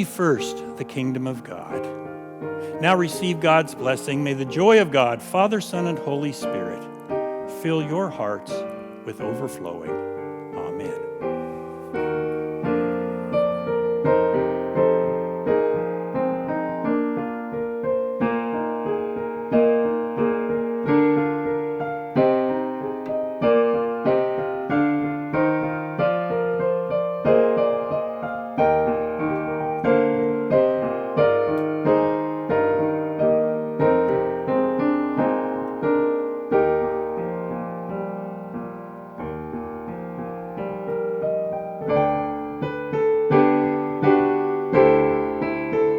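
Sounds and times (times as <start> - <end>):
slow piano piece: 0.0 - 45.9.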